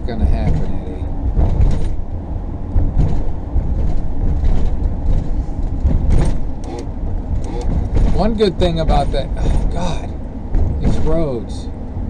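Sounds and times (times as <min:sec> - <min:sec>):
rattles and knocks: 0:00.0 - 0:11.4
vehicle road rumble: 0:00.0 - 0:12.0.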